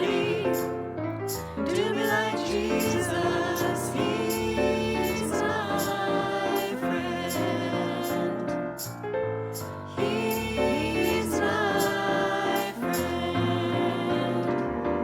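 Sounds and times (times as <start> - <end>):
choir singing: 0.0 - 8.9, 9.9 - 15.0
piano accompaniment: 0.0 - 15.0.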